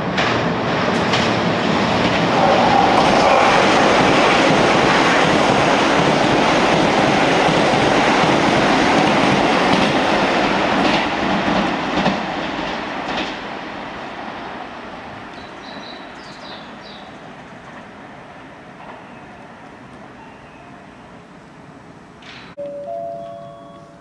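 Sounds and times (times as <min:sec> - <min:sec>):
train rumbling past: 0:00.0 - 0:22.6.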